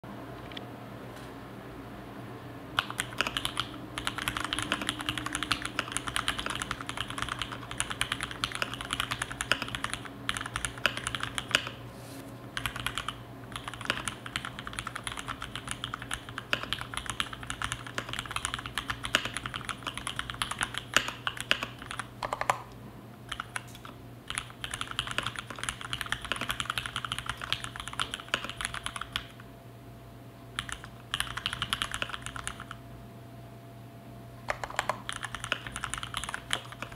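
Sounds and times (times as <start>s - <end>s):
fast mechanical keyboard typing: 2.8s - 11.8s, 12.6s - 22.7s, 23.3s - 29.4s, 30.6s - 32.8s, 34.5s - 36.9s.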